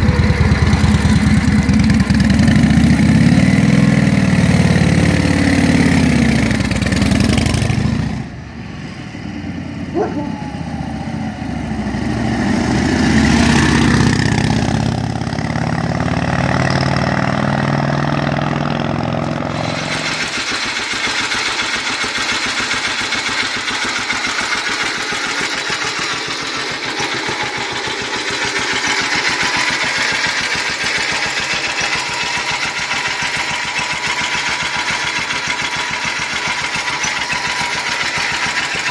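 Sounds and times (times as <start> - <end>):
motorcycle engine running steadily: 0.0 - 8.8, 11.1 - 38.9
motorcycle engine revving: 0.0 - 38.9.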